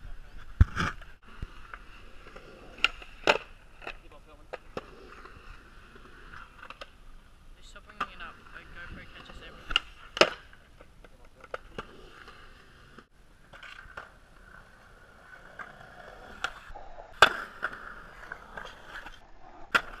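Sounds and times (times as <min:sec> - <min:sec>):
skateboard wheels rolling on concrete: 0:00.0 - 0:20.0
skateboard clacking on concrete: 0:00.8 - 0:07.0, 0:07.6 - 0:20.0.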